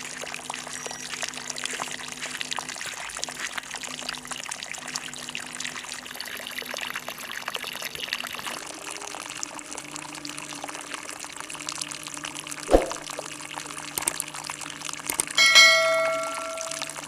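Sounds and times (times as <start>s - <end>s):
water pouring: 0.0s - 17.0s.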